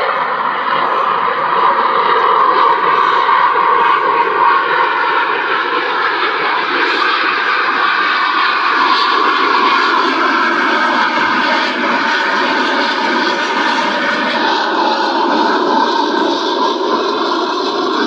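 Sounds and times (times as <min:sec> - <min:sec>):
loud jet noise: 0:00.0 - 0:18.0.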